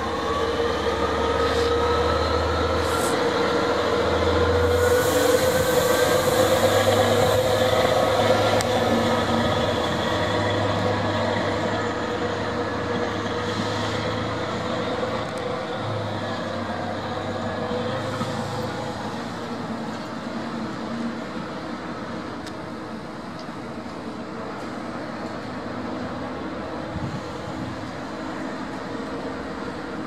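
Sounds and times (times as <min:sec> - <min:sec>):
diesel locomotive engine hum: 0:00.0 - 0:30.0.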